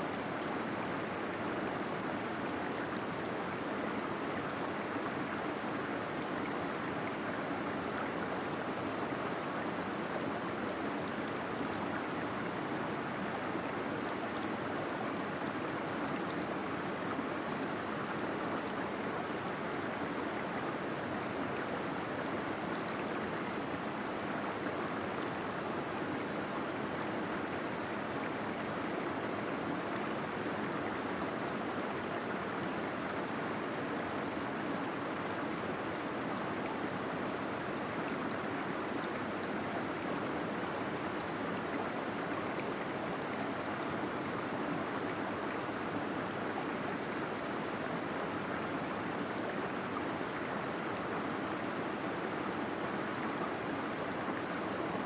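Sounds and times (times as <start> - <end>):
small waterfall gurgling: 0.0 - 55.0.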